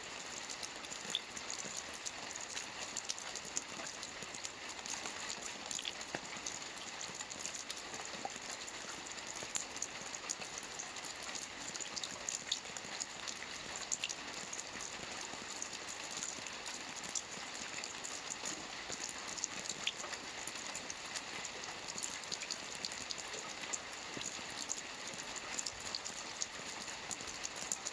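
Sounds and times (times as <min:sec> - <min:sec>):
rain falling on a roof: 0:00.0 - 0:27.9.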